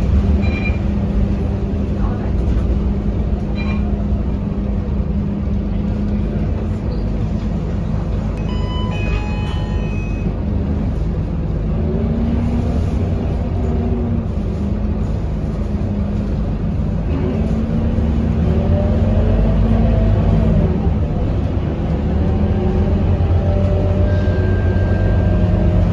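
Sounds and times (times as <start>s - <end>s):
bus diesel engine running: 0.0s - 25.9s.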